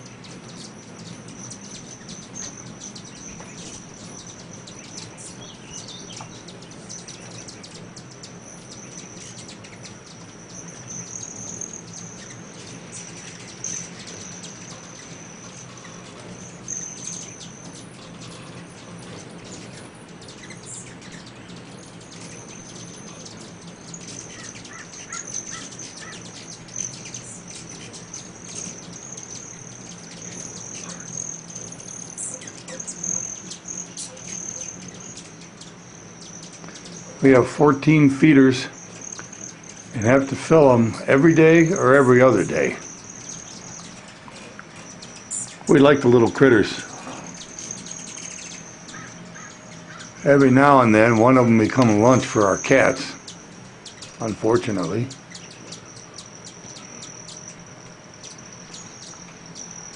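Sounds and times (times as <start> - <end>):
hummingbirds chipping and chattering: 0.0 - 59.9.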